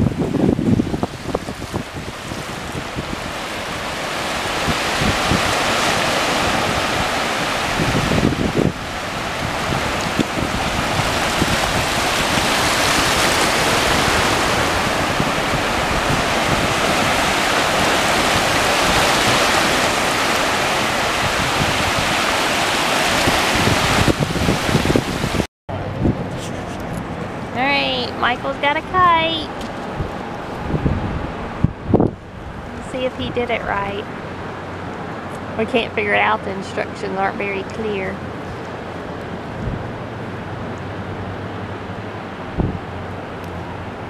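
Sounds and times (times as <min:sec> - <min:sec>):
ocean waves breaking: 0:00.0 - 0:44.0
wind on microphone: 0:00.0 - 0:44.0.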